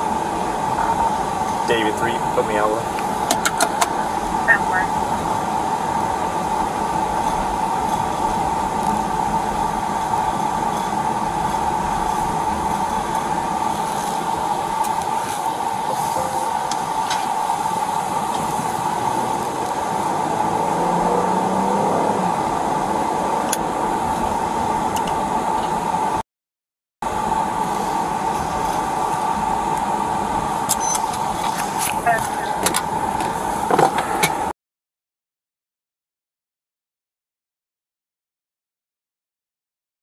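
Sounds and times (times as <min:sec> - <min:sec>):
road and engine noise in car: 0:00.0 - 0:26.2, 0:27.0 - 0:34.5.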